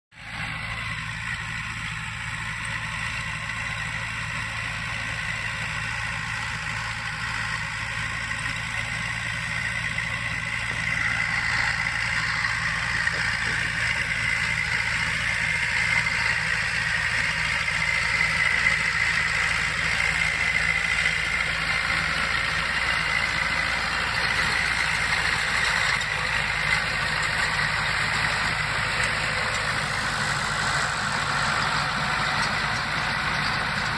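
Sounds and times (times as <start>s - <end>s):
baler machinery running: 0.2s - 33.9s
tractor engine running: 0.2s - 33.9s.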